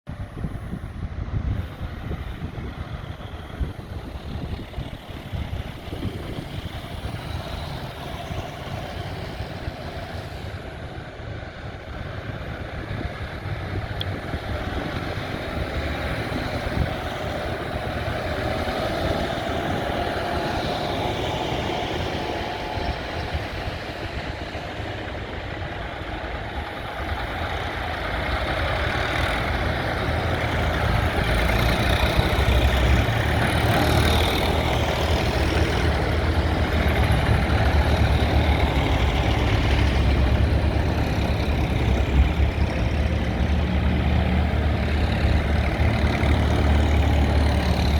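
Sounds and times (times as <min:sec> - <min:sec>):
tractor engines rumbling: 0:00.1 - 0:47.9.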